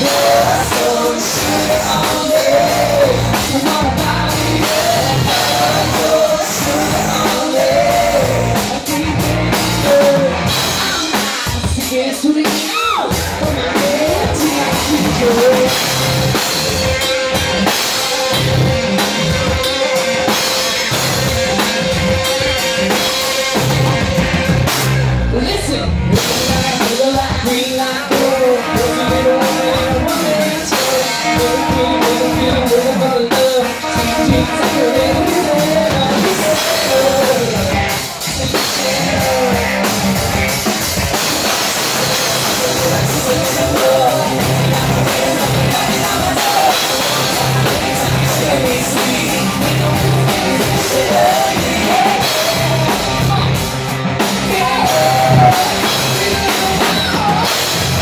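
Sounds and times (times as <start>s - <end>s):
man and woman singing: 0.0s - 16.6s, 25.3s - 40.8s, 41.4s - 57.8s
drum kit: 0.0s - 58.0s
electric guitar: 0.0s - 58.0s.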